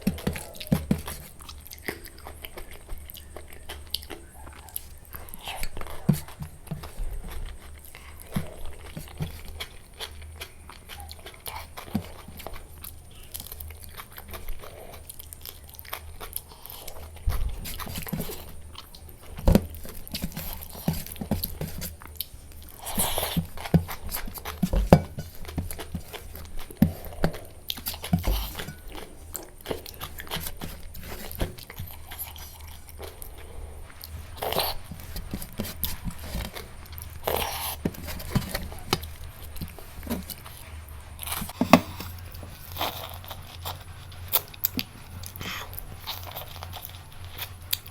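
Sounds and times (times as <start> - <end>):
chewing and biting: 0.0 - 47.9
food crunching: 0.0 - 47.9.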